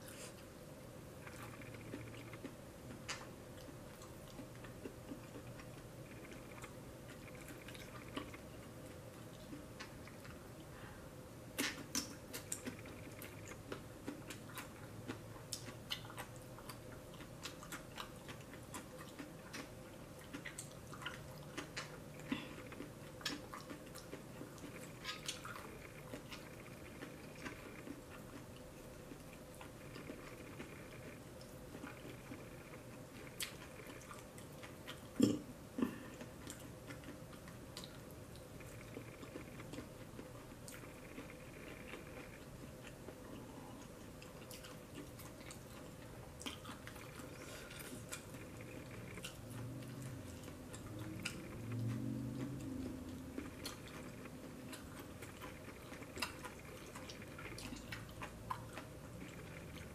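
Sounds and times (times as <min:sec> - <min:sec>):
faint steady hum: 0:00.0 - 0:59.9
person chewing: 0:01.2 - 0:59.9.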